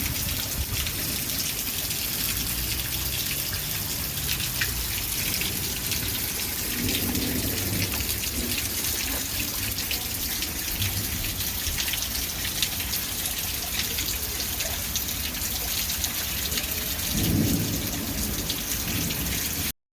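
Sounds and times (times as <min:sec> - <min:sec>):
rain falling: 0:00.0 - 0:19.8.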